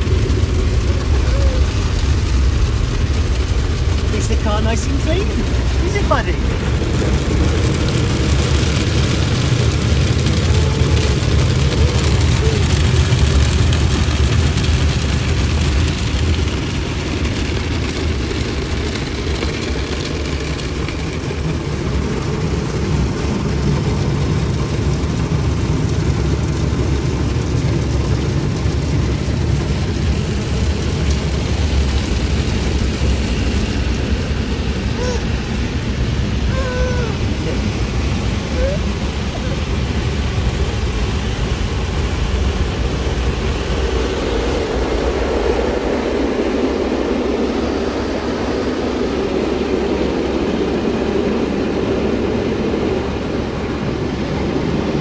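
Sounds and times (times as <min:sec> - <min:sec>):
car wash machinery rumbling: 0:00.0 - 0:55.0
water spraying on car: 0:00.0 - 0:55.0.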